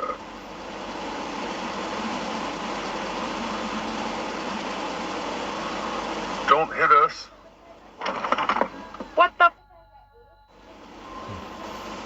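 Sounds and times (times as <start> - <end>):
car engine and road noise: 0.0 - 9.6, 10.5 - 12.0.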